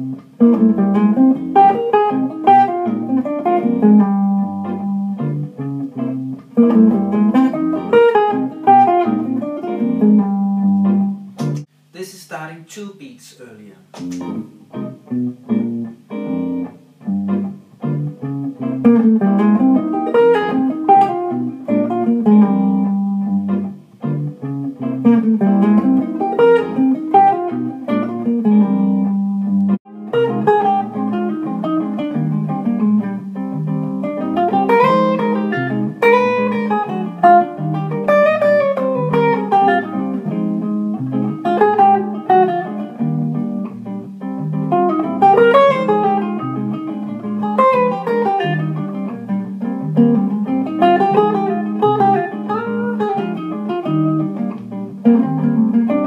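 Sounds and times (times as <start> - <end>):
electric jazz guitar: 0.0 - 11.7, 13.8 - 56.0
bass line backing track: 0.0 - 12.5, 13.8 - 56.0.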